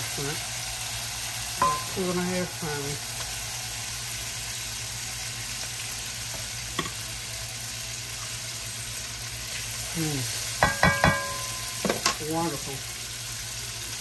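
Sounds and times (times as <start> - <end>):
shrimp sizzling in a wok: 0.0 - 14.0.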